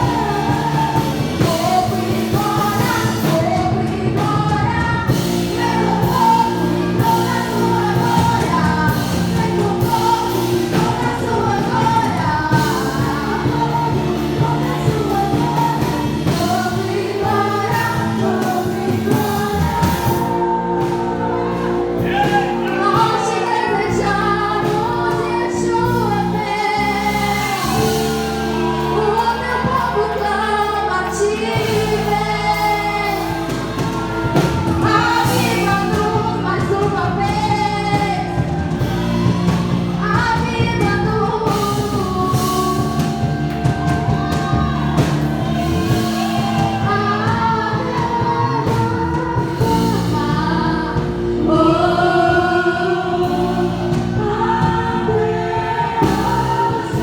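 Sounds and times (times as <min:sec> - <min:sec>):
band with keyboard and drums: 0:00.0 - 0:57.0
congregation singing praise song: 0:00.0 - 0:57.0.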